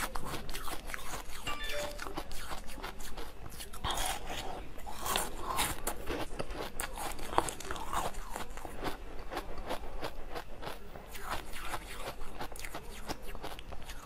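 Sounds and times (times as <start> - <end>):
frozen ice pop being chewed: 0.0 - 14.0.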